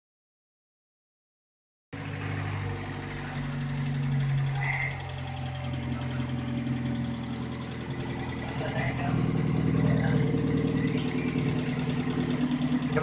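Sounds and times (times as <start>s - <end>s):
car engine idling: 2.0s - 13.0s.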